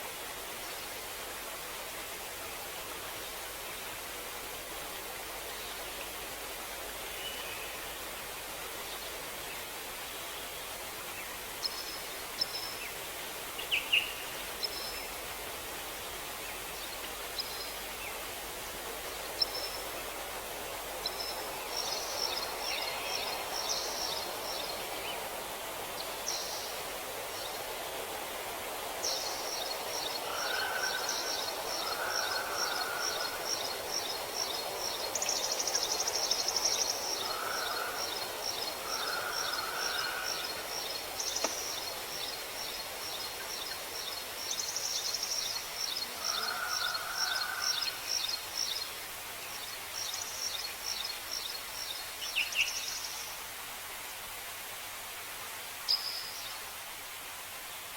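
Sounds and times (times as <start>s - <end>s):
songbirds chirping: 5.3s - 53.4s.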